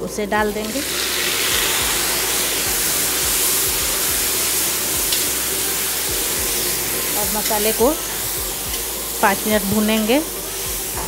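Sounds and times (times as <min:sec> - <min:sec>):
water sizzling in hot oil: 0:00.0 - 0:11.0.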